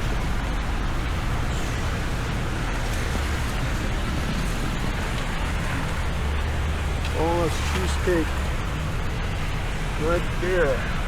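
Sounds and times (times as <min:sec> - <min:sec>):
street traffic low rumble: 0:00.0 - 0:11.0.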